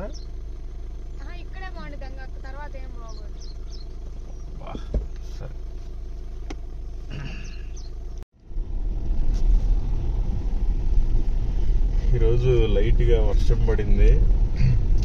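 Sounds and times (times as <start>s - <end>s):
car engine humming: 0.0s - 15.0s
car rumbling over rough road: 0.0s - 15.0s.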